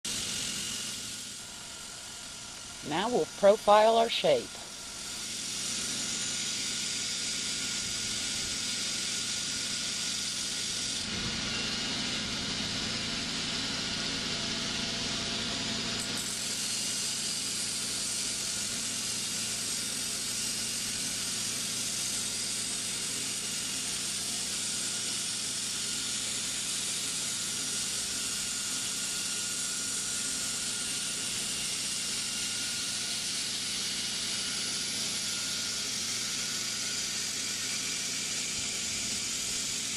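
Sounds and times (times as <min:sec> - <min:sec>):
grinder hissing against metal: 0:00.1 - 0:02.8, 0:04.7 - 0:14.0, 0:15.4 - 0:39.9.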